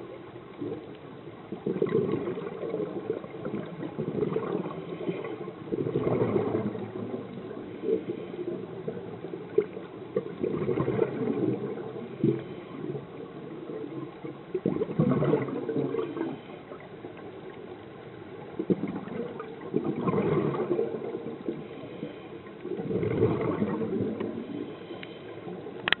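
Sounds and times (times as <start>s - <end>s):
underwater bubbles gurgling: 0.0s - 26.0s.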